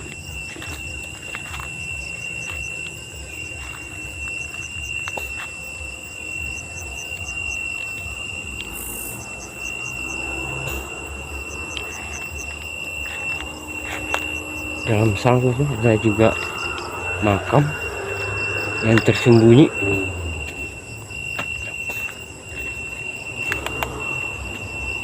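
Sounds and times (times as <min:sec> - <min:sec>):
crickets chirping: 0:00.0 - 0:25.0
insects shrill tone: 0:00.0 - 0:25.0.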